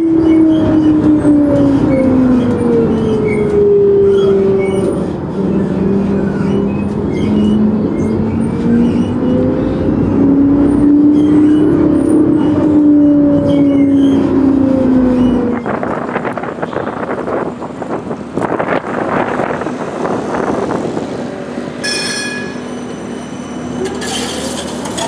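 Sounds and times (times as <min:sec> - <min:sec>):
road rumble: 0:00.0 - 0:25.0.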